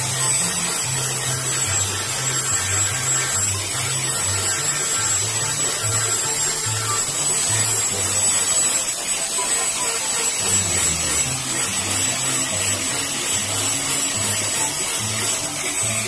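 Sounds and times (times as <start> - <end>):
background music with bass line: 0.0 - 8.9, 9.6 - 16.0
angle grinder sanding wood: 0.0 - 16.0.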